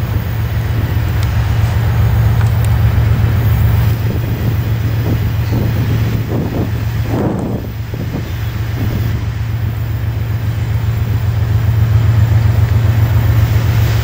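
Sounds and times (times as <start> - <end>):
diesel locomotives droning: 0.0 - 14.0.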